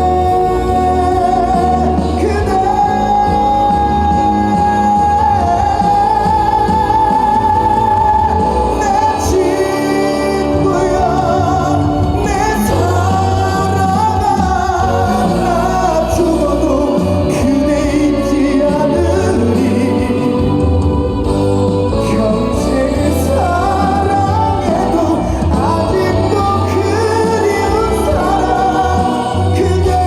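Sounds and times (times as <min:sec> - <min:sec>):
live band playing: 0:00.0 - 0:30.0
person singing: 0:00.0 - 0:30.0.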